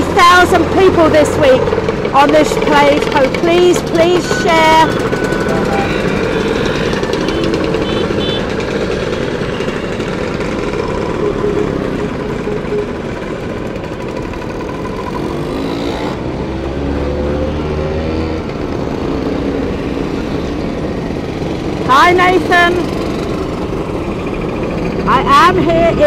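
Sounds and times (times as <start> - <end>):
motor scooters passing: 0.0 - 26.0.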